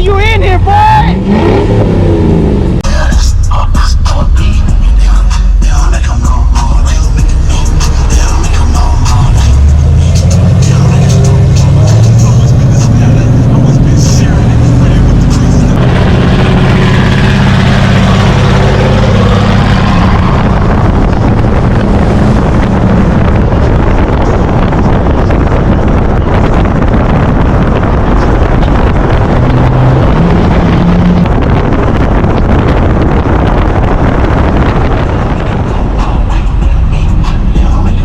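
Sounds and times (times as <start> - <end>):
low engine drone: 0.0 - 38.0
vehicle noise: 0.0 - 38.0
wind over microphone: 4.1 - 38.0.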